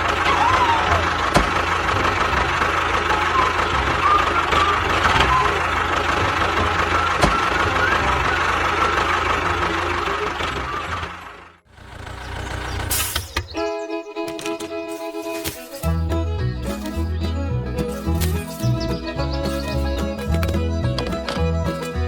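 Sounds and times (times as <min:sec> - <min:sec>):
small engine humming: 0:00.0 - 0:22.0.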